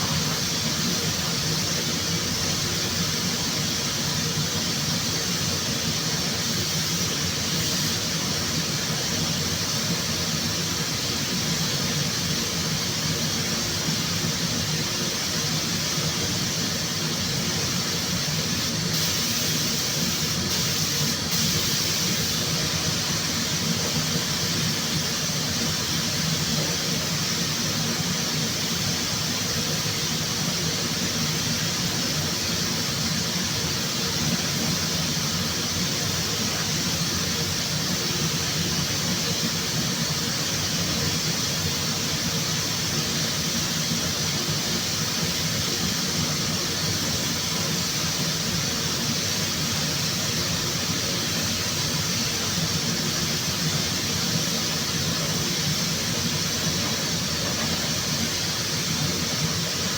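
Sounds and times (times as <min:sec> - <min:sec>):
compressed air hissing: 0:00.0 - 0:59.9.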